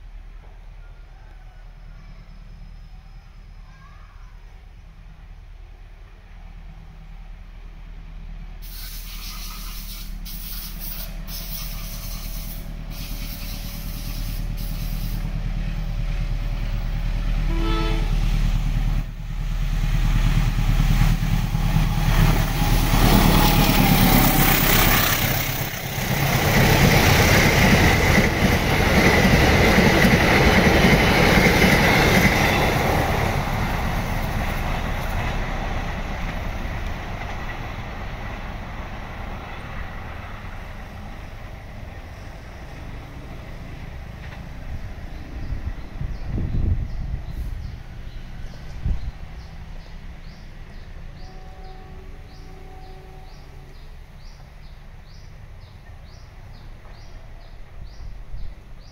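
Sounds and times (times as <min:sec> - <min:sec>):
diesel locomotive engine rumble: 0:00.0 - 0:58.9
train coaches rolling past: 0:00.0 - 0:58.9.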